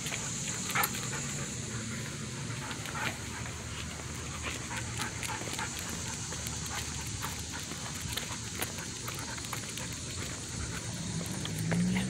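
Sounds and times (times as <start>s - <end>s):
dog panting: 0.0s - 12.0s
steady background hiss: 0.0s - 12.0s.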